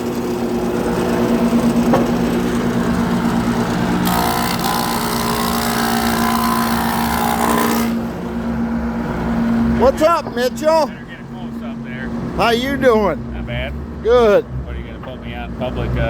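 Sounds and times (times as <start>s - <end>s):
sawmill machinery humming: 0.0s - 16.0s.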